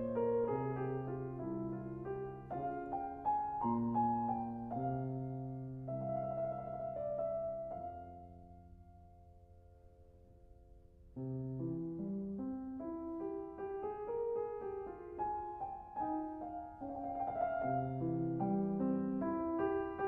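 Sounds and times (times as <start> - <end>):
solo piano music: 0.0 - 20.0.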